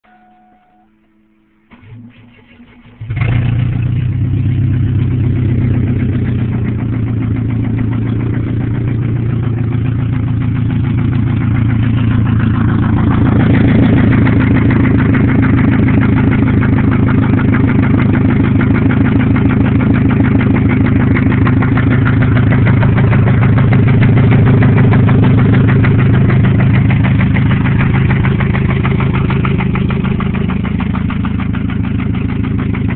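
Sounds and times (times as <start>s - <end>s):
car engine idling with ticking: 1.7s - 32.9s.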